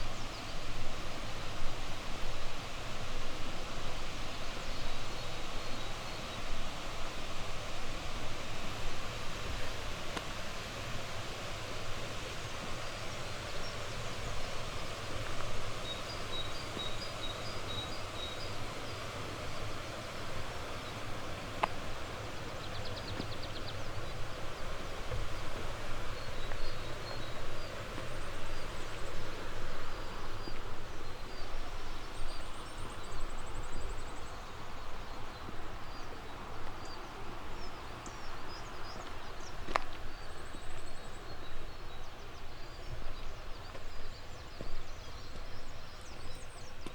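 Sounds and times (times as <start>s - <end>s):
small songbirds calling: 4.2s - 46.9s.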